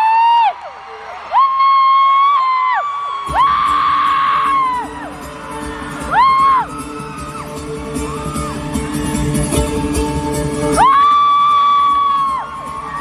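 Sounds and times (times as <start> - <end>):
live concert music: 0.0 - 13.0.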